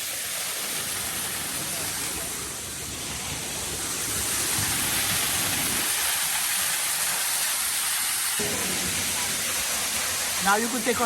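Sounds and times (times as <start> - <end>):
waterfall pouring into a pool: 0.0 - 11.0.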